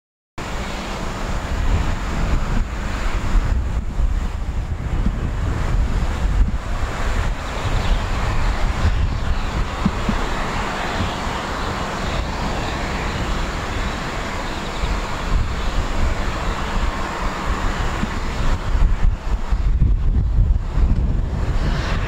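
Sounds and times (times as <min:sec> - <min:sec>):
jet engine noise: 0:00.4 - 0:22.0
wind on microphone: 0:00.4 - 0:22.0.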